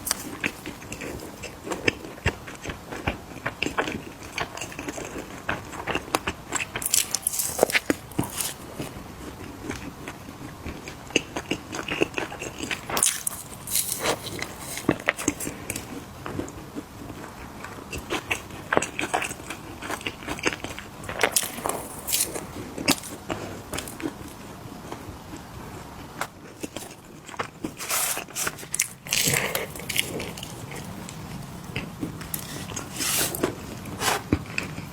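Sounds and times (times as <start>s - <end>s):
crunching crisp cookies: 0.0s - 25.5s, 26.1s - 34.9s.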